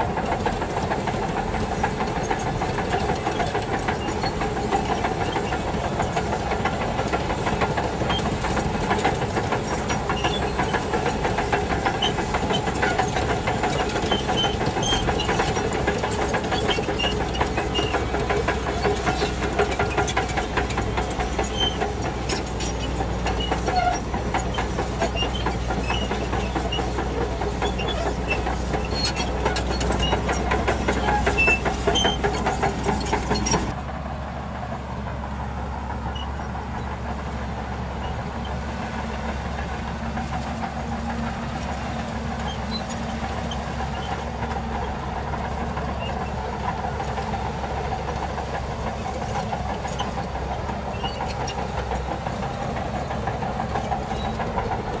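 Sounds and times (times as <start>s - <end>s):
steel tracks clattering and squeaking: 0.0s - 33.8s, 35.6s - 55.0s
diesel engine under load: 0.0s - 55.0s.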